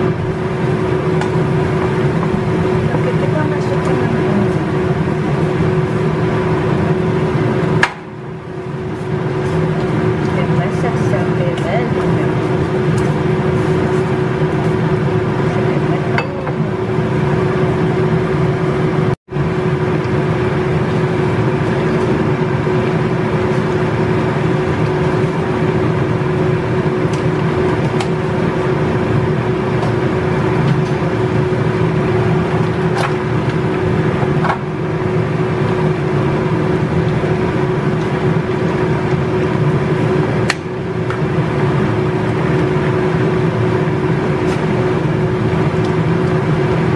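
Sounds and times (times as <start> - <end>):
steady machine hum: 0.0 - 46.9.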